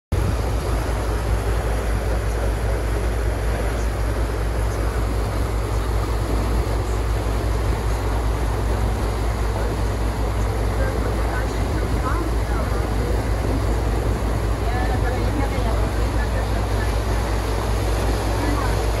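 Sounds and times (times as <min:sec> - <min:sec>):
boat engine rumbling: 0:00.1 - 0:19.0
water noise: 0:00.1 - 0:19.0.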